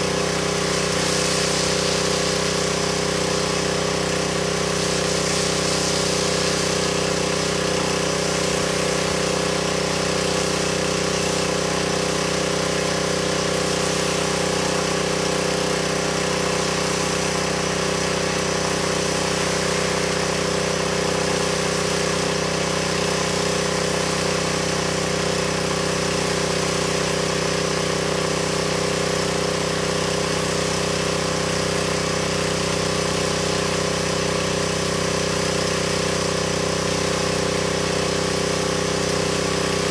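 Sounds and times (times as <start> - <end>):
hiss of spray: 0.0 - 39.9
pressure washer running: 0.0 - 39.9.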